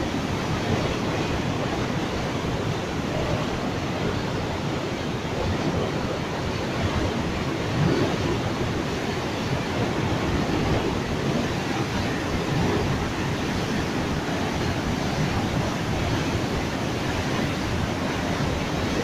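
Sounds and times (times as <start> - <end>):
water rushing through spillway: 0.0 - 19.0.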